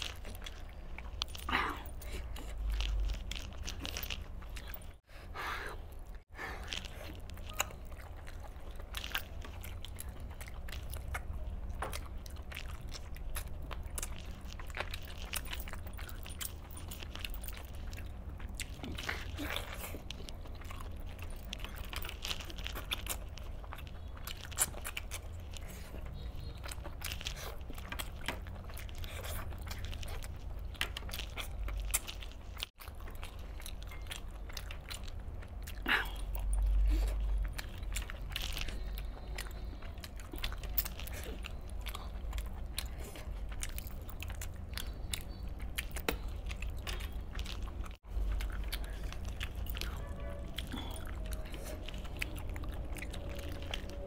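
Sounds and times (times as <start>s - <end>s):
man chewing food: 0.0s - 54.0s.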